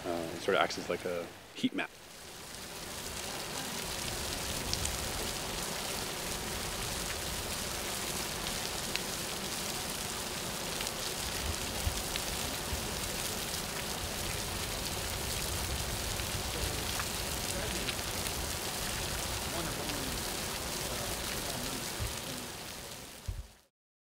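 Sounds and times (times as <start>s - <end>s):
hissing falling water: 0.0s - 23.7s
faint water drips: 1.9s - 23.4s.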